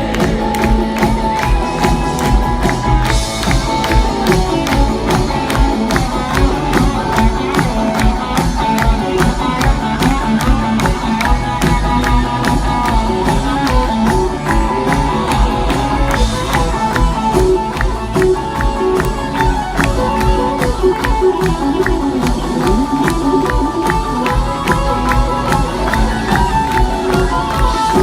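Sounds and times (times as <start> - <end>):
rock band playing: 0.0 - 28.0
steady drum beat: 0.0 - 28.0.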